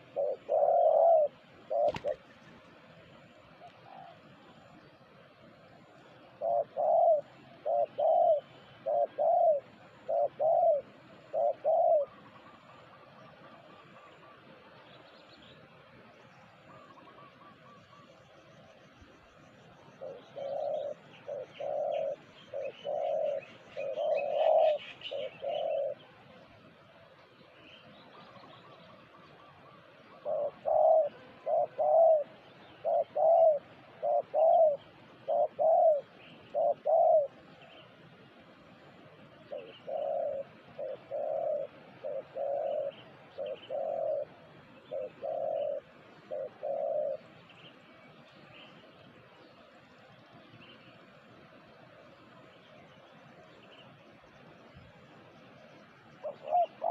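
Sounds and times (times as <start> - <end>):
dove cooing: 0.0 - 14.8, 15.4 - 47.8, 56.0 - 56.9
small birds chirping: 0.0 - 38.4, 39.2 - 56.9.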